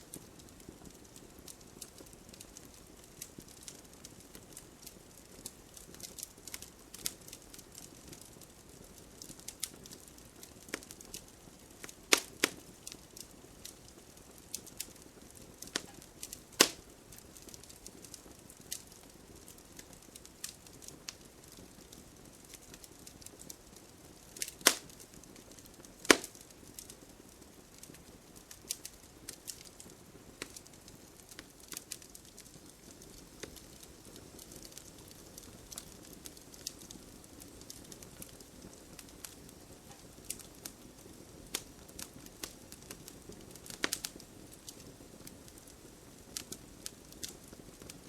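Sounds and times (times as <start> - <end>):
campfire crackling: 0.0 - 48.0
loud pops of fire: 0.1 - 48.0.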